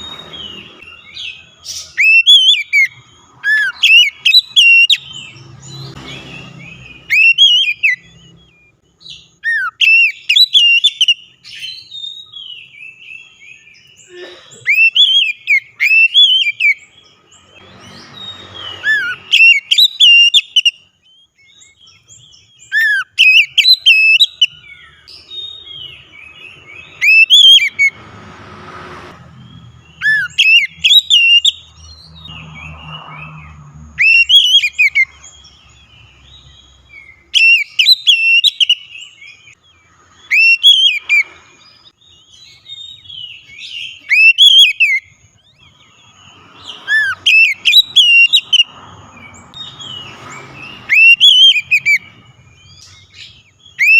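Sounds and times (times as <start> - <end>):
songbird whistled song: 0.0 - 28.0, 29.0 - 53.9.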